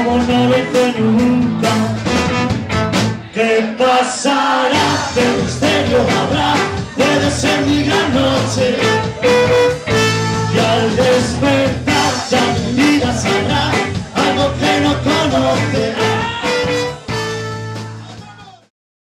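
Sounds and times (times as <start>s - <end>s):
live ska band with trombone: 0.0s - 3.8s, 4.7s - 18.7s.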